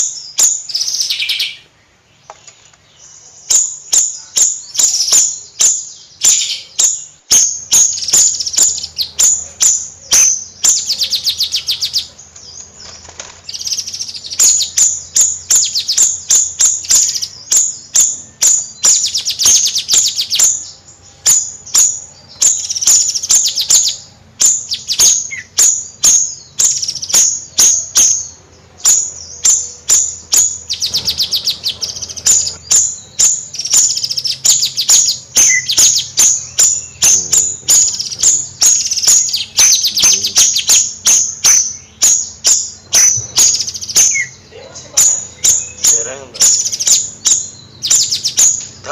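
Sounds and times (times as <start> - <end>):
songbird chirping: 0.0 - 48.9
bird rattling trill: 4.7 - 44.4.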